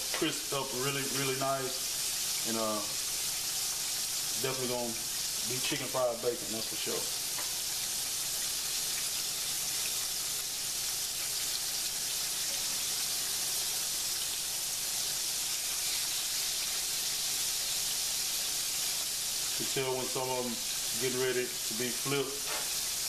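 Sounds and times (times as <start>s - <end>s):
bacon sizzling in hot oil: 0.0s - 23.0s.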